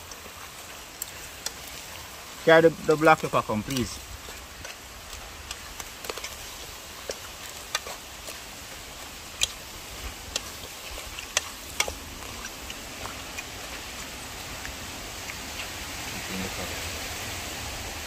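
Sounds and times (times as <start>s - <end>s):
food crackling and popping: 0.0s - 16.6s
steady cooking hiss: 0.0s - 18.0s.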